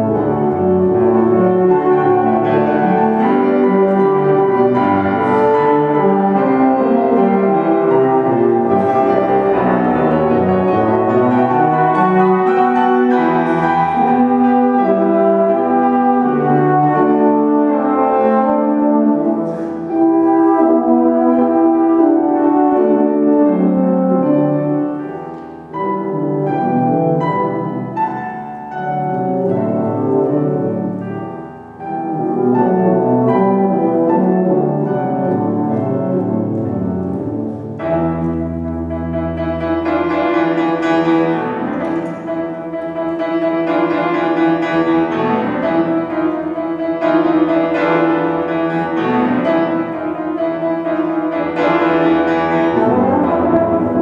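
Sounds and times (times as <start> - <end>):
piano accompaniment: 0.0 - 54.0
tuba and euphonium duet: 0.0 - 54.0.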